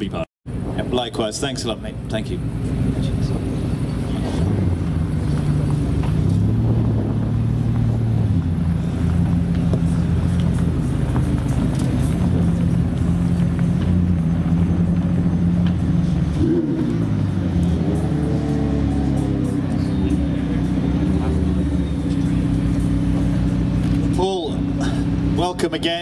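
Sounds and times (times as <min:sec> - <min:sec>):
car engine at low revs: 0:00.0 - 0:26.0.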